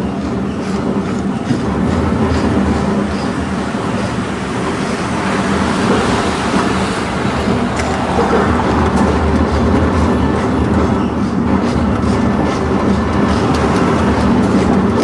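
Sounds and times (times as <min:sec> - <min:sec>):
tram rumbling on street rails: 0:00.0 - 0:15.0
van passing: 0:01.4 - 0:15.0.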